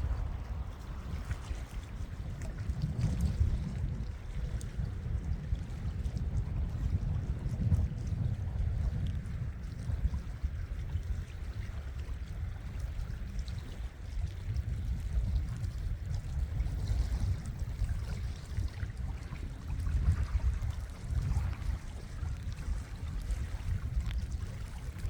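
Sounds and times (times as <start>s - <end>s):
sea water washing: 0.0s - 25.0s
wind buffeting microphone: 0.0s - 25.0s.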